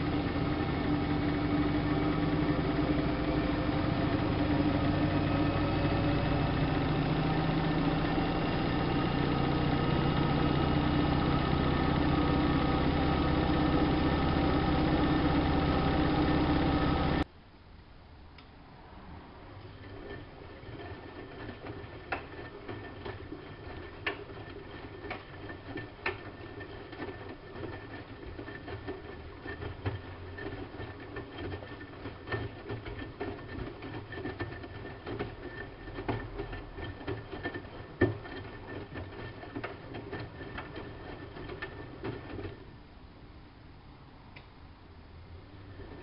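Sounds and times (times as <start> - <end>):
washing machine motor humming: 0.0 - 17.3, 19.5 - 43.2, 45.1 - 46.0.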